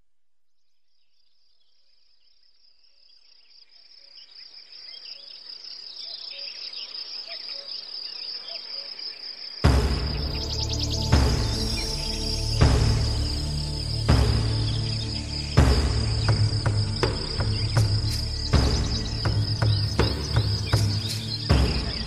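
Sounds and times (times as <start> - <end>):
insects trilling: 1.0 - 22.0.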